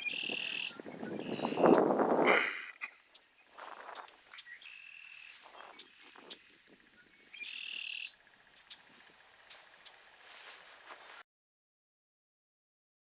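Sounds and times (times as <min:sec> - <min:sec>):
bird chirps: 0:00.0 - 0:01.9, 0:02.5 - 0:11.2
buzzy bird trill: 0:00.0 - 0:11.2
rough bird calls: 0:00.0 - 0:11.2.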